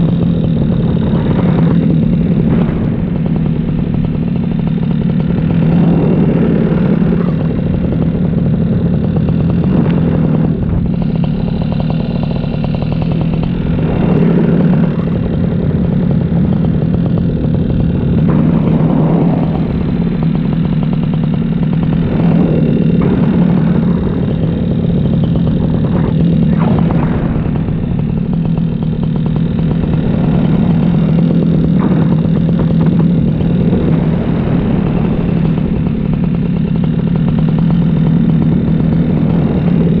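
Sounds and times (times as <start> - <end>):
paramotor engine drone: 0.0 - 40.0.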